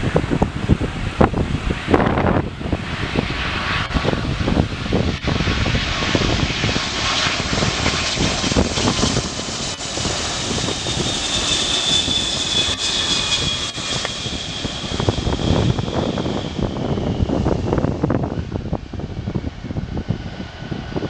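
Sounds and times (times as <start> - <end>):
jet engine whine: 0.0 - 21.0
jet roar: 0.0 - 21.0.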